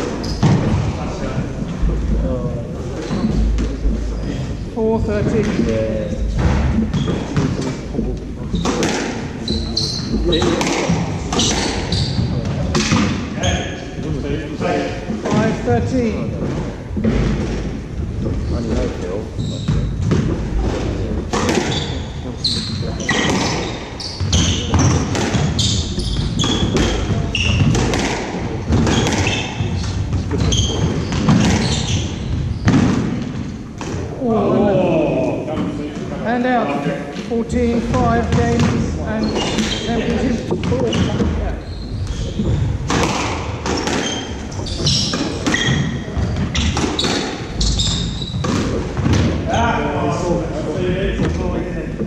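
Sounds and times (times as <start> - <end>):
squash ball hitting rackets and walls: 0.0 - 2.2, 2.9 - 14.0, 14.6 - 34.2, 37.6 - 50.4
shoes squeaking on wooden floor: 0.0 - 52.0.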